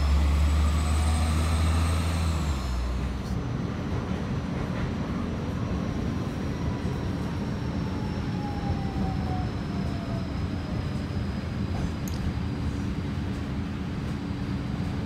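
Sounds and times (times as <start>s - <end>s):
tram rumble with low hum: 0.0s - 15.0s.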